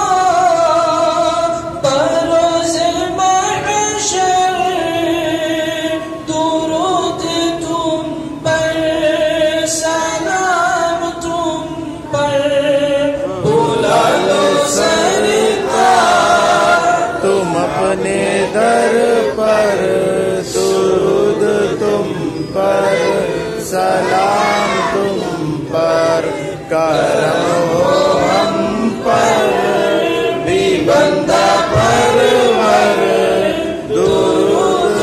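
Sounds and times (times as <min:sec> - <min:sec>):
men chanting in unison: 0:00.0 - 0:35.0.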